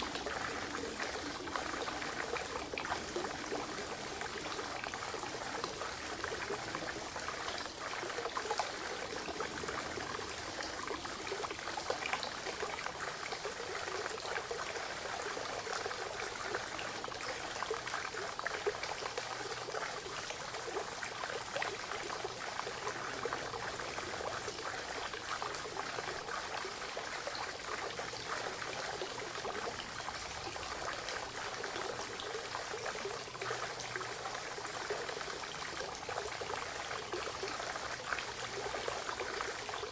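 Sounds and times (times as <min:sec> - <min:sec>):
stream trickling into pond: 0:00.0 - 0:39.9.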